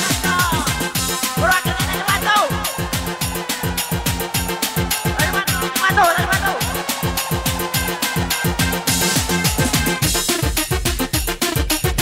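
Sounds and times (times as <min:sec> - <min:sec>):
electronic dance music: 0:00.0 - 0:12.0
kick drum beat: 0:00.0 - 0:12.0.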